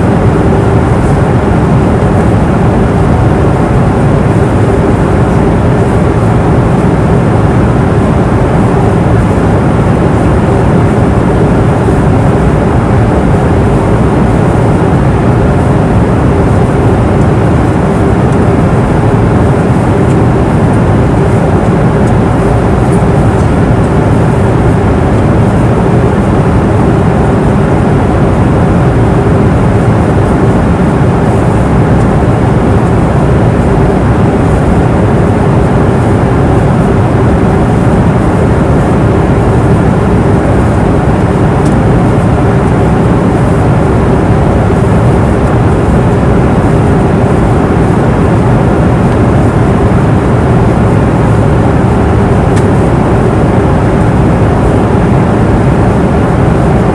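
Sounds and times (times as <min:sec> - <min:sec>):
airplane cabin rumble: 0:00.0 - 0:56.9
constant hum: 0:00.0 - 0:56.9.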